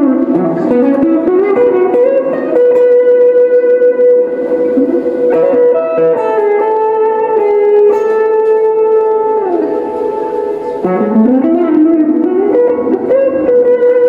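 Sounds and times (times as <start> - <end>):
distorted electric guitar: 0.0 - 14.0.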